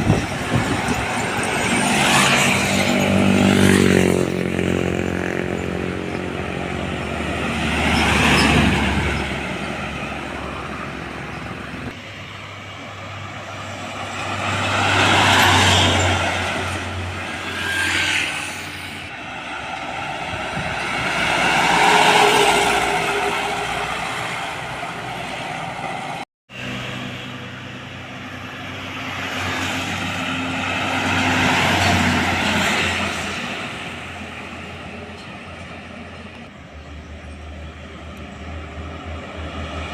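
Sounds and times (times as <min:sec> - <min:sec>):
heavy trucks passing by: 0:00.0 - 0:39.9.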